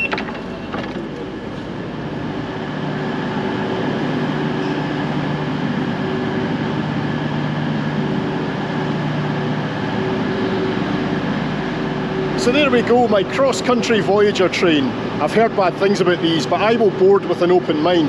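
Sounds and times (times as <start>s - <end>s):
train diesel engines humming: 0.0s - 18.0s.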